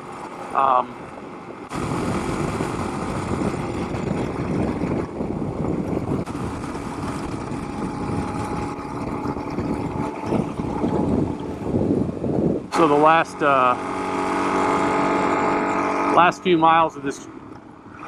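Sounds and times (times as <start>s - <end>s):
motorcycle engine running: 0.0s - 18.0s
wind noise on microphone: 1.1s - 18.0s.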